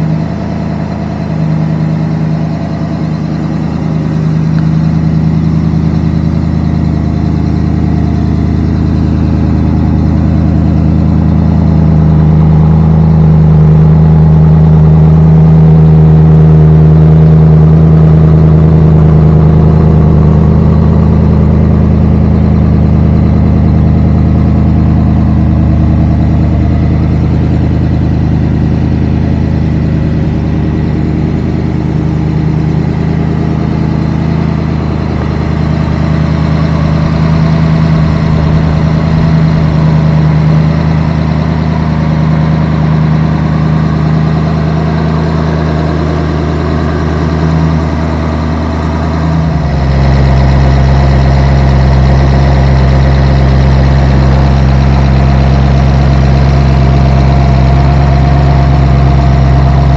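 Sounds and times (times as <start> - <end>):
v-eight engine idling: 0.0 - 59.9.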